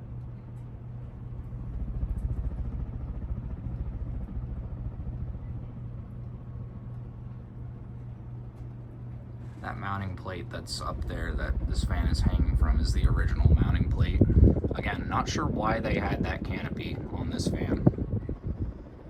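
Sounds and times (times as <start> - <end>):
ceiling fan running: 0.0 - 19.0.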